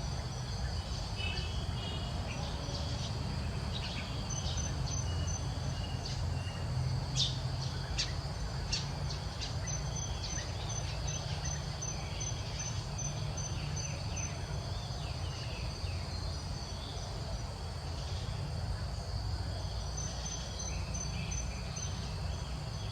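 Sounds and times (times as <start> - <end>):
insects buzzing: 0.0 - 22.9.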